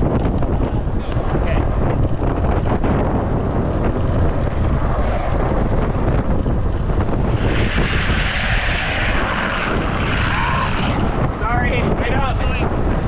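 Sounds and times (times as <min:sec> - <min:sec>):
longboard wheels rolling on asphalt: 0:00.0 - 0:13.0
wind buffeting microphone: 0:00.0 - 0:13.0.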